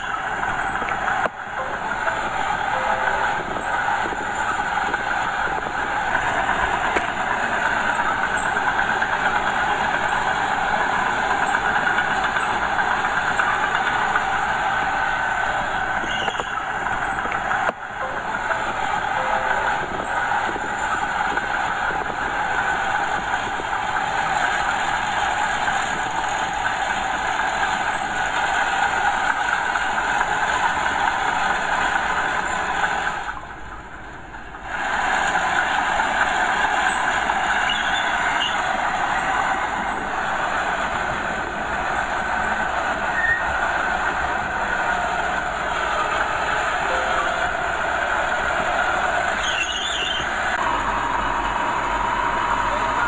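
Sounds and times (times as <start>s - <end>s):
bulldozer diesel engine: 0.0s - 53.0s
steel tracks clattering: 0.0s - 53.0s.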